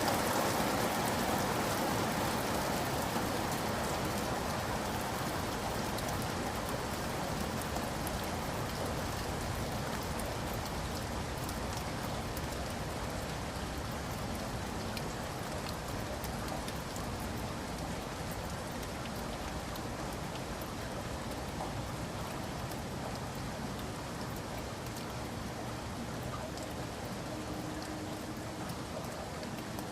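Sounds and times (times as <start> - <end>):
raindrops ticking: 0.0 - 29.9
steady rain falling: 0.0 - 29.9.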